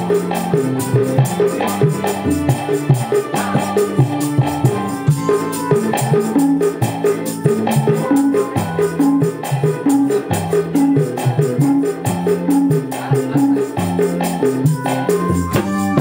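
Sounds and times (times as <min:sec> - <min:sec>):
electric guitar: 0:00.0 - 0:16.0
electronic keyboard: 0:00.0 - 0:16.0
hand-played drum: 0:00.0 - 0:16.0
tambourine jingling: 0:00.0 - 0:16.0.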